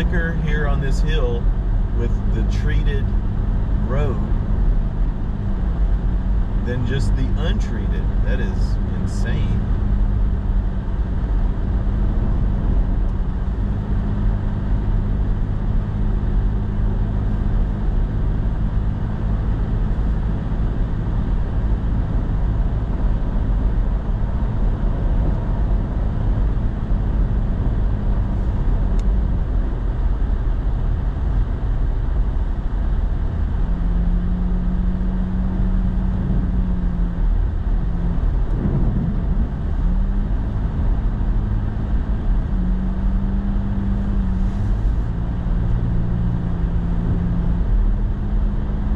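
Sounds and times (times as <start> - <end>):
truck engine running: 0.0 - 48.9
tyre and road noise: 0.0 - 48.9.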